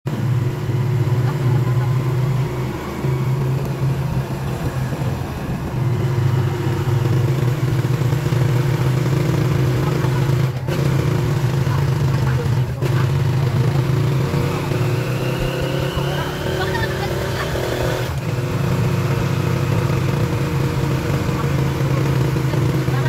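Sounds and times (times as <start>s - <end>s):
motorcycle engine cruising: 0.0s - 23.0s
road noise: 0.0s - 23.0s.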